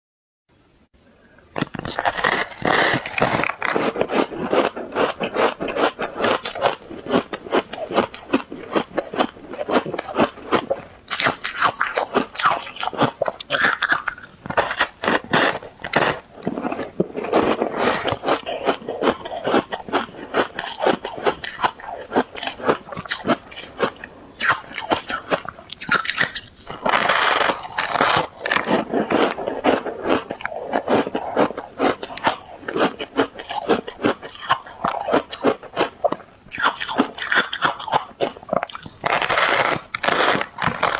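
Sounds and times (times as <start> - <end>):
ice crunching between teeth: 1.6 - 40.9.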